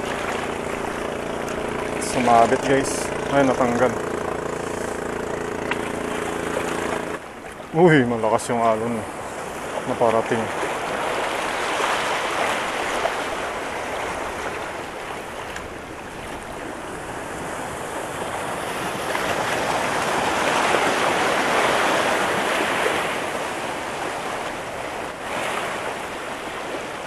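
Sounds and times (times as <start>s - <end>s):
sea waves washing over rocks: 0.0s - 27.0s.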